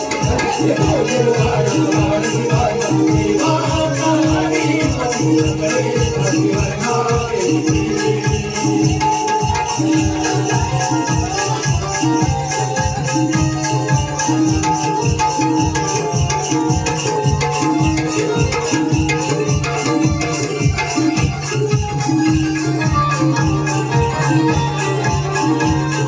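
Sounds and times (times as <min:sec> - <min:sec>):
hand drum fast rhythm: 0:00.0 - 0:26.0
held melody notes: 0:00.0 - 0:26.0.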